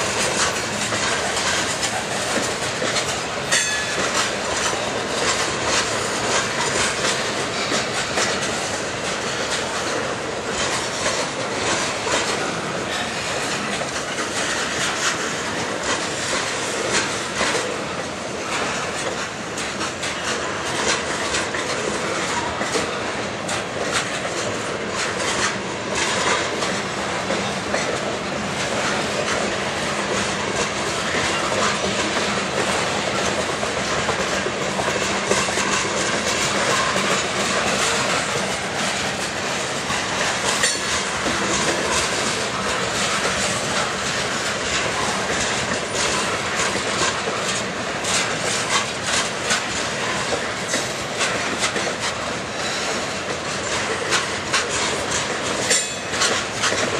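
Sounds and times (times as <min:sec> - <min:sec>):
freight train rumble: 0:00.0 - 0:56.9
train wheels clacking on rail joints: 0:00.0 - 0:56.9.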